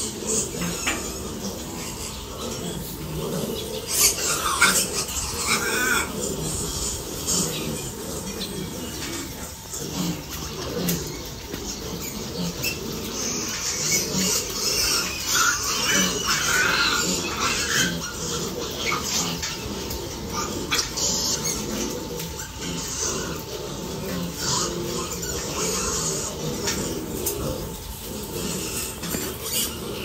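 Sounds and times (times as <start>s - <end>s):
piglets grunting and squealing: 0.0s - 30.0s.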